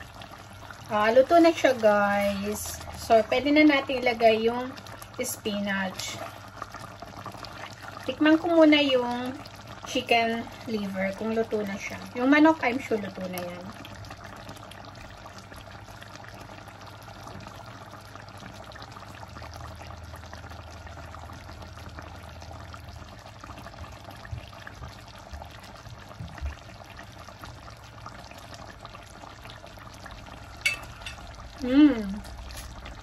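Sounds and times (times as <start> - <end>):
sauce bubbling in a wok: 0.0 - 33.0.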